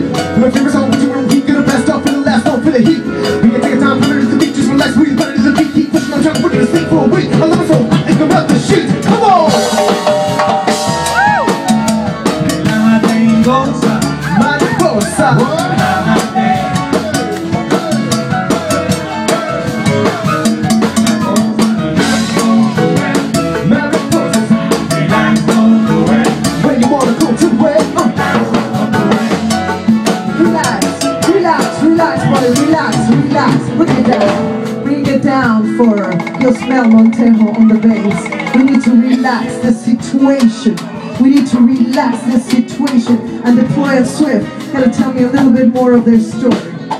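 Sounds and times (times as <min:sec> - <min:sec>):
busy drumming: 0:00.0 - 0:46.9
live band playing instrumental: 0:00.0 - 0:46.9.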